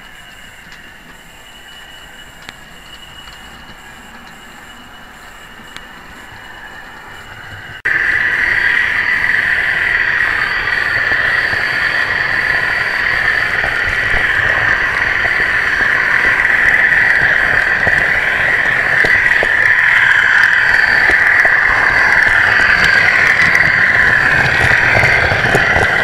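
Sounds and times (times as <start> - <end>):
high-pitched engine drone: 0.0 - 26.0.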